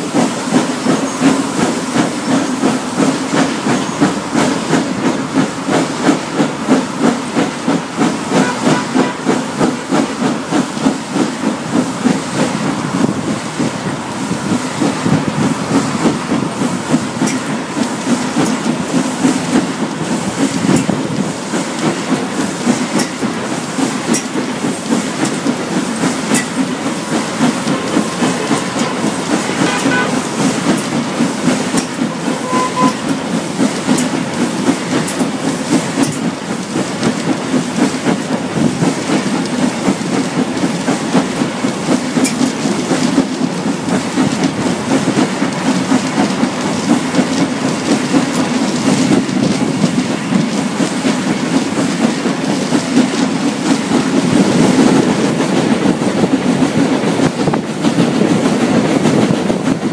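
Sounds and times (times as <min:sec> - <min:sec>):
carriage wheels clattering on rails: 0:00.0 - 0:59.9
hissing steam: 0:00.0 - 0:59.9
steam locomotive exhaust beat: 0:00.0 - 0:59.9.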